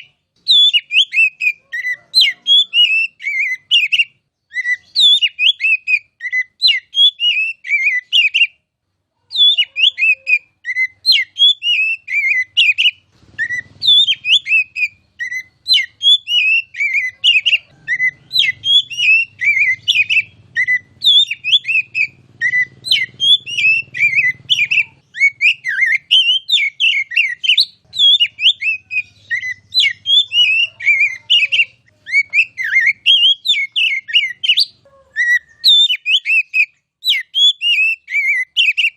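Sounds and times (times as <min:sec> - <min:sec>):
bird singing whistles and chirps: 0:00.0 - 0:08.6, 0:09.3 - 0:38.9.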